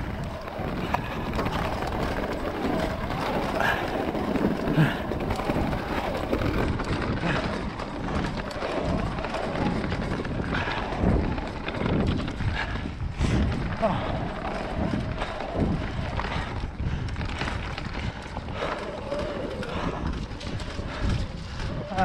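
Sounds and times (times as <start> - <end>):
tyres crunching over stones: 0.0 - 12.6, 13.5 - 22.0
bike rattling over bumps: 0.0 - 22.0
wind rumble on microphone: 0.0 - 22.0.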